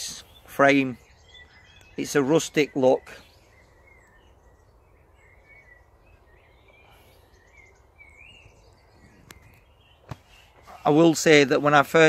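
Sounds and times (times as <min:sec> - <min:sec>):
distant birdsong: 0:00.0 - 0:12.0
outdoor background noise: 0:00.0 - 0:12.0.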